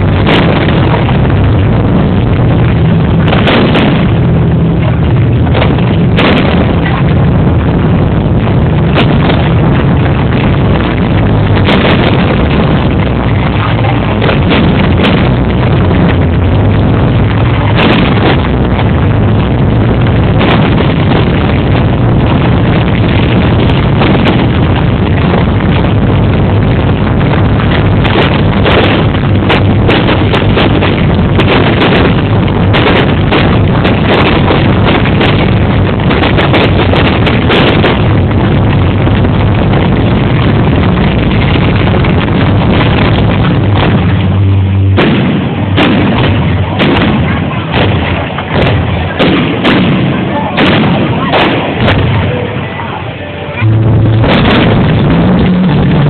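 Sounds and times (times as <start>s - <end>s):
fireworks bangs and crackles: 0.0s - 56.0s
fireworks rumble: 0.0s - 56.0s.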